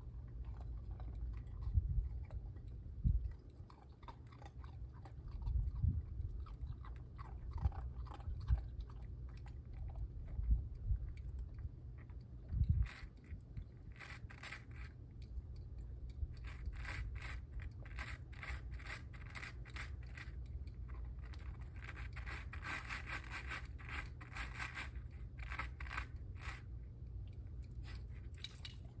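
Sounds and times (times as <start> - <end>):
steady low rumble: 0.0 - 3.8, 4.4 - 29.0
puppy crunching ice: 0.0 - 29.0.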